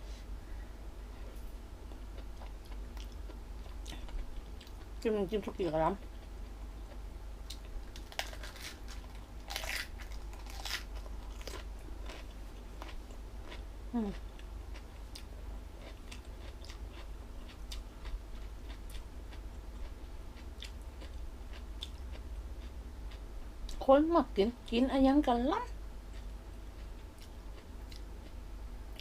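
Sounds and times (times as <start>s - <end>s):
crunchy chewing: 1.3s - 5.0s, 6.0s - 23.8s, 26.1s - 28.4s.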